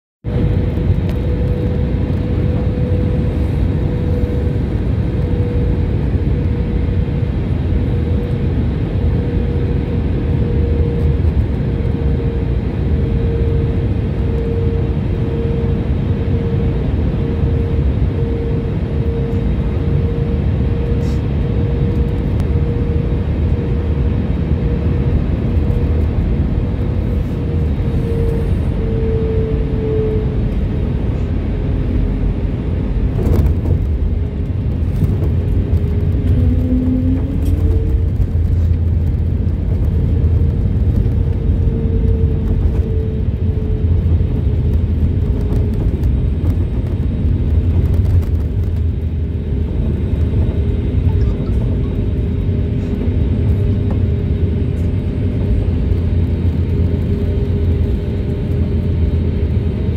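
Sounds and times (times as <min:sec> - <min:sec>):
airliner cabin rumble: 0:00.2 - 0:59.9.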